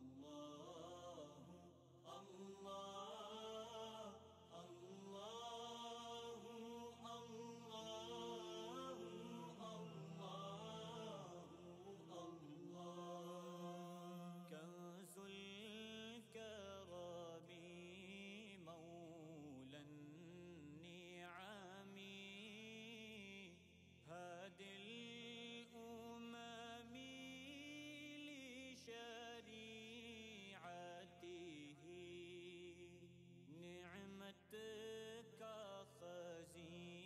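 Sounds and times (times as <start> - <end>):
chant-like vocal music: 0.0 - 37.0.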